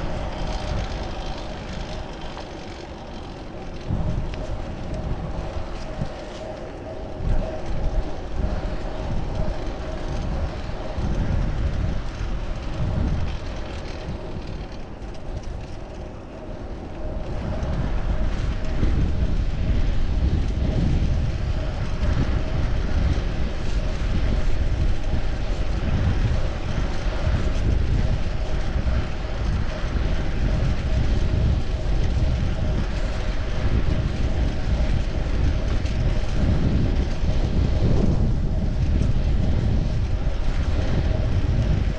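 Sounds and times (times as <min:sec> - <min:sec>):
wind rumbling on microphone: 0:00.0 - 0:41.9.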